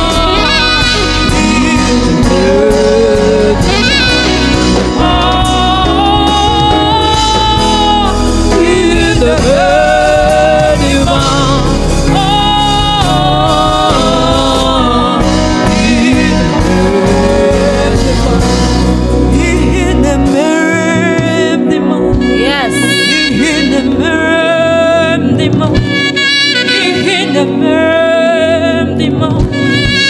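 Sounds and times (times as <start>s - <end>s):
steady bass: 0.0s - 30.0s
worship band playing slow song: 0.0s - 30.0s.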